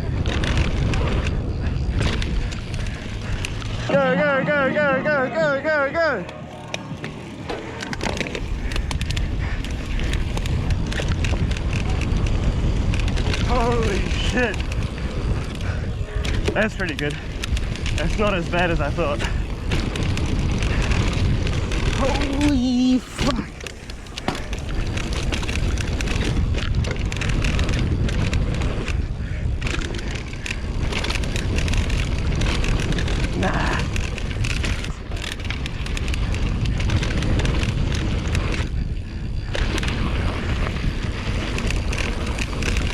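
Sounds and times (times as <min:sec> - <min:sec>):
bike clicks and knocks: 0:00.0 - 0:03.9, 0:06.2 - 0:42.9
wind buffeting microphone: 0:00.0 - 0:42.9.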